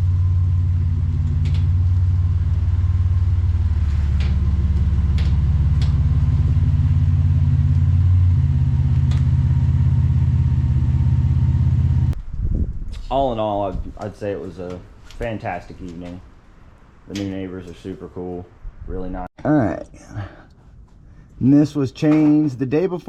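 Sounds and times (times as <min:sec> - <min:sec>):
vehicle engine rumbling: 0:00.0 - 0:19.3.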